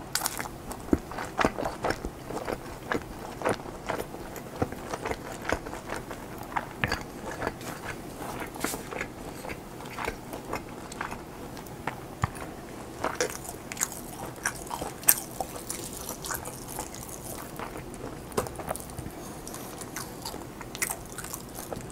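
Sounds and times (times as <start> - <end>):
person chewing food: 0.1 - 21.9.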